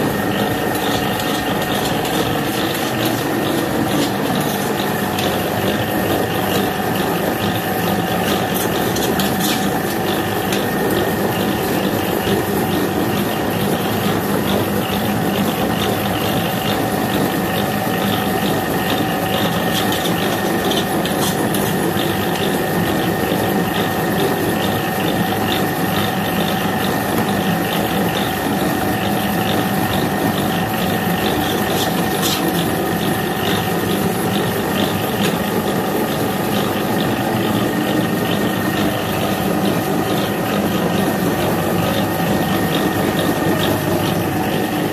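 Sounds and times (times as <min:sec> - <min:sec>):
dough mixer motor humming: 0:00.0 - 0:44.9
mixer clattering in metal bowl: 0:00.0 - 0:44.9.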